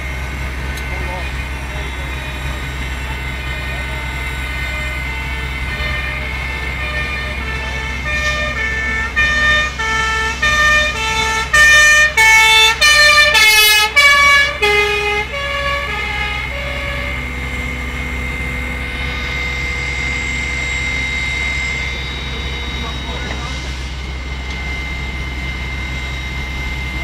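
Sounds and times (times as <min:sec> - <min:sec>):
road traffic: 0:00.0 - 0:27.0
two-tone siren: 0:00.0 - 0:27.0.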